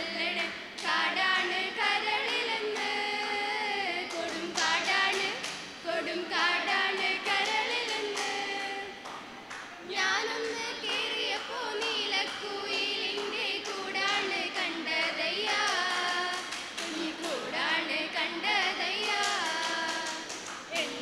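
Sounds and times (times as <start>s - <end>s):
group singing into microphones: 0.0s - 21.0s.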